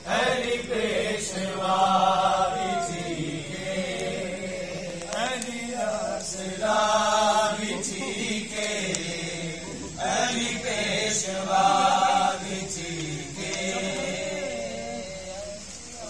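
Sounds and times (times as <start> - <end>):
person singing devotional melody: 0.0 - 16.0.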